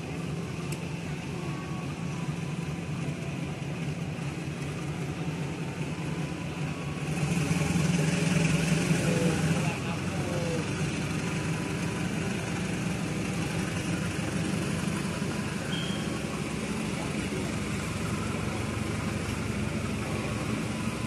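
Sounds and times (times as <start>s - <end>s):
locomotive engine droning: 0.0s - 21.0s.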